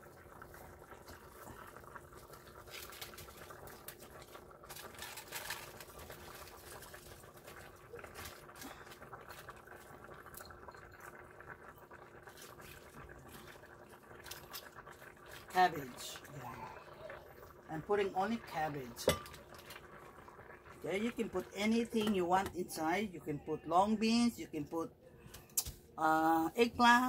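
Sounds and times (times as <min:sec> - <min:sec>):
pot simmering: 0:00.0 - 0:27.0.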